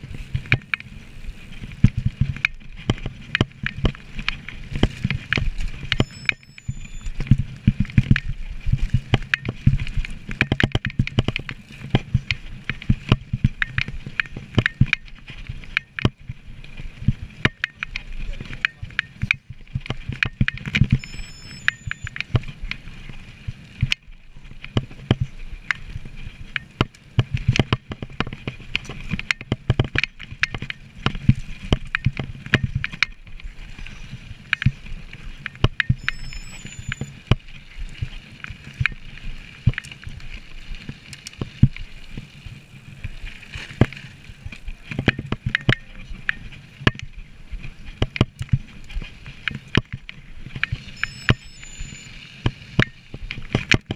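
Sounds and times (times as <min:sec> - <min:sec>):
bike clattering and rattling: 0:00.0 - 0:51.0, 0:52.2 - 0:53.9.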